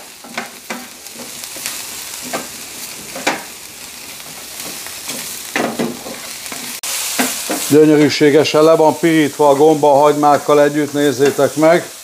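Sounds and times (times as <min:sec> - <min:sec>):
onions and mushrooms sizzling: 0:00.0 - 0:12.0.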